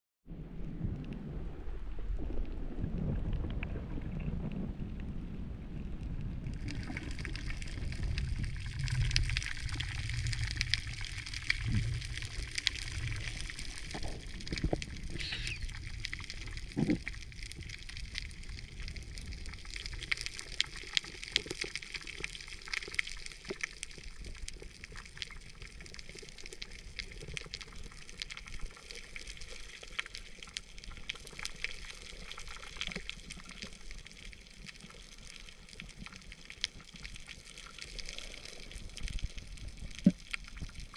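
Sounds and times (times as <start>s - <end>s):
low rumble of water movement: 0.3s - 40.9s
underwater clicks and crackles: 0.6s - 40.9s.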